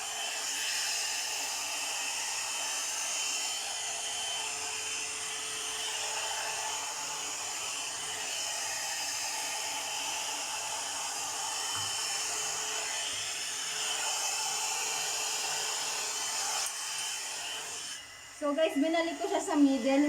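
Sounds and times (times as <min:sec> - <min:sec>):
hot-air blower brush running: 0:00.0 - 0:20.0.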